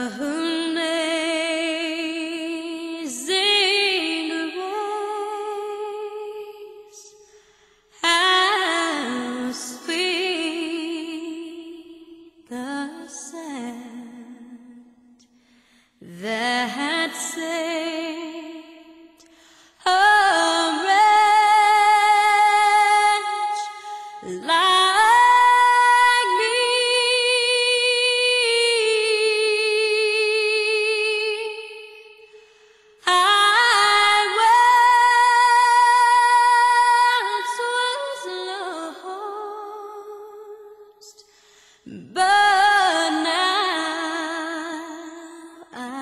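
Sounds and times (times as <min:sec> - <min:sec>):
woman singing with vibrato: 0:00.0 - 0:07.1, 0:07.9 - 0:15.0, 0:16.0 - 0:32.3, 0:33.0 - 0:41.2, 0:41.9 - 0:46.0.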